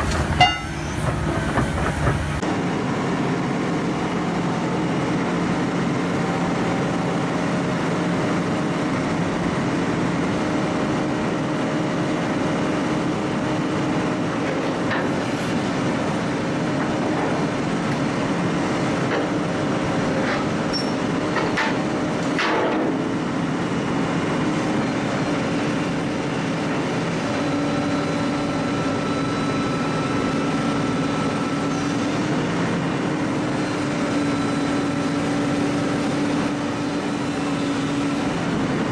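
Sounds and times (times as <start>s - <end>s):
heavy machinery running: 0.0s - 38.9s.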